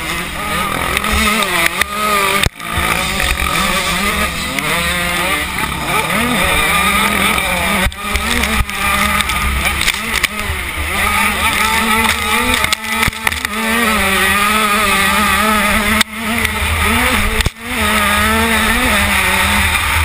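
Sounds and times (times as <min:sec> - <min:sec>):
two-stroke motorbike engine revving: 0:00.0 - 0:20.0.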